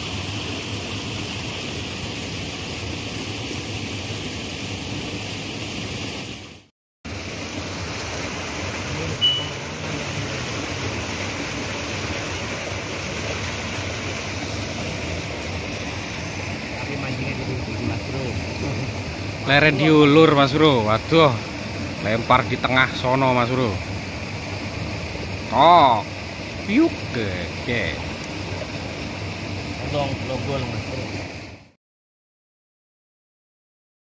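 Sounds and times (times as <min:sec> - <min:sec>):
river water rushing: 0:00.0 - 0:31.6.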